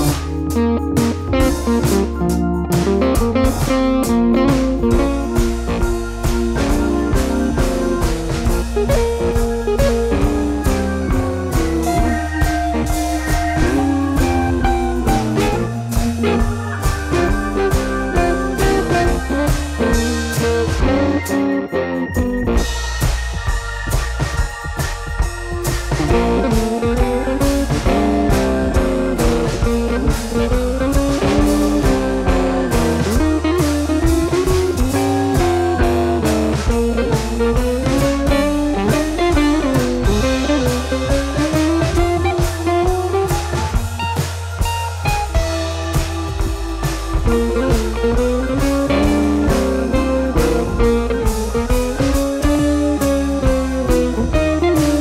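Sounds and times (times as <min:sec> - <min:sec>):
blues-rock music with guitar and drums: 0:00.0 - 0:55.0.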